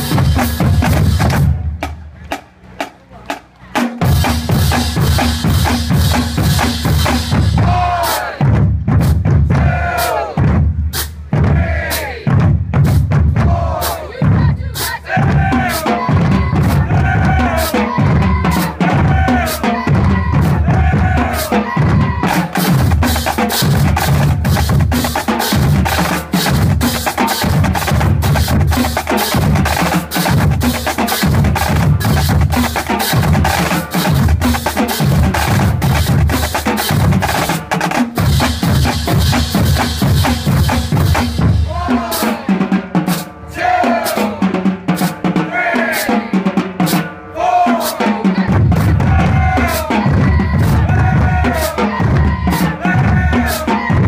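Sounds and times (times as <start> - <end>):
bass drums: 0.0 - 54.0
pitched drums: 0.0 - 54.0
snare drums: 0.0 - 54.0.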